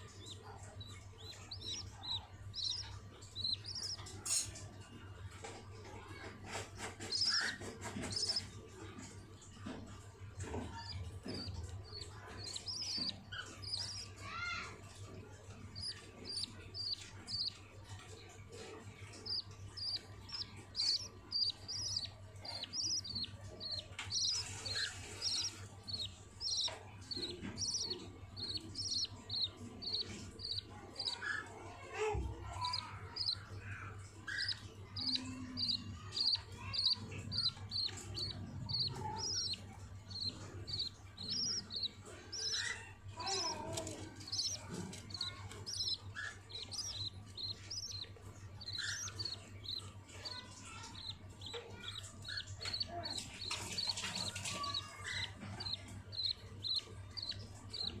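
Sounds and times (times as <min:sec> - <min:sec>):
budgerigars chirping: 0:00.0 - 0:04.5, 0:06.1 - 0:08.9, 0:10.4 - 0:31.5, 0:32.4 - 0:58.0.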